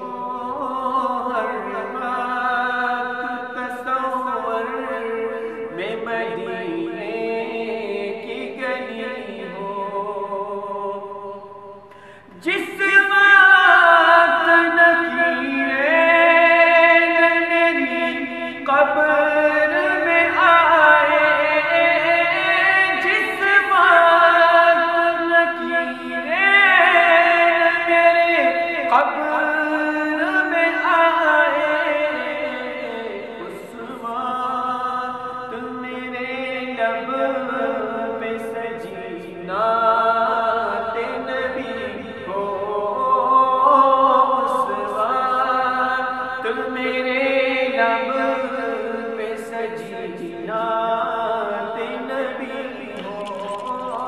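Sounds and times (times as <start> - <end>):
man singing devotional song: 0.0 - 54.0
layered vocal backing: 5.7 - 54.0.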